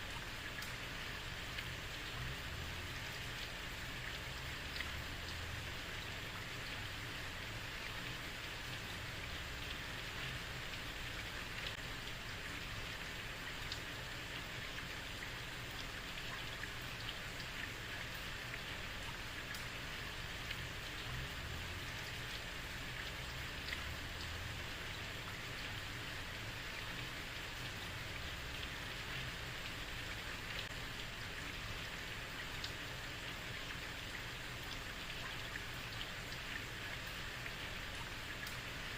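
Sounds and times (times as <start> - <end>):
heavy rain on a street: 0.0 - 38.9.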